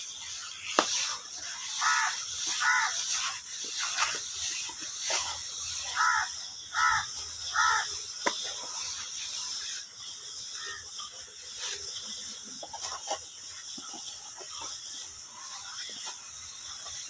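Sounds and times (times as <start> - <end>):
plastering float scraping plaster: 0.0 - 17.0.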